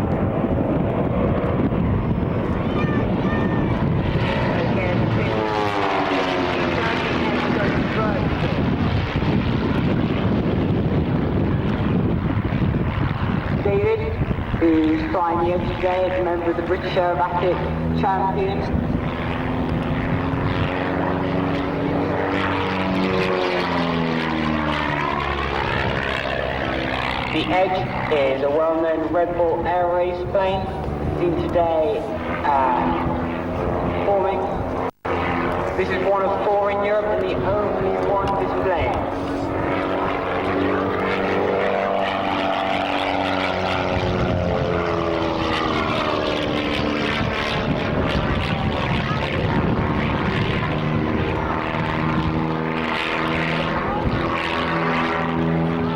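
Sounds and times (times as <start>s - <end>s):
propeller plane engine droning: 0.0s - 55.9s.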